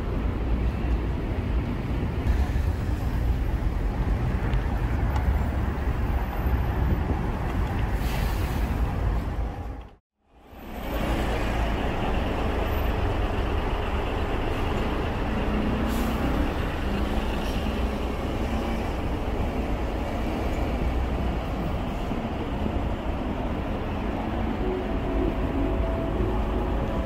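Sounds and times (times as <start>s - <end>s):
low rumble of passing traffic: 0.0s - 27.0s.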